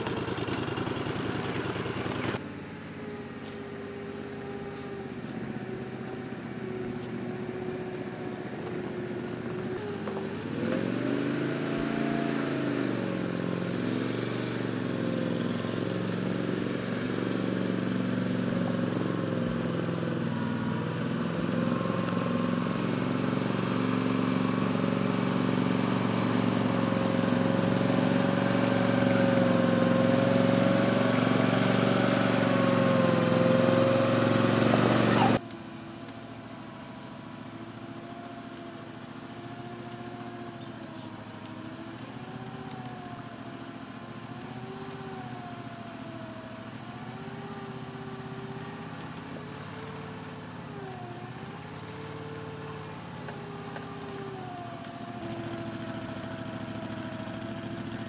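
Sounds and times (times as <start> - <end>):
boat engine running: 0.0 - 2.4, 3.4 - 10.5, 17.1 - 58.0.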